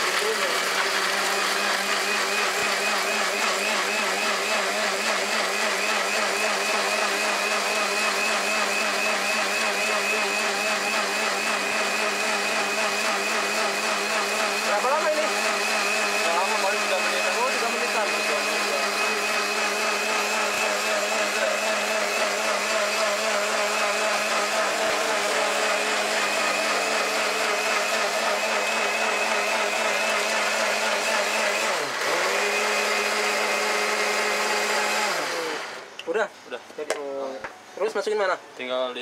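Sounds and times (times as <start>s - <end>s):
blender motor whining: 0.0s - 36.1s.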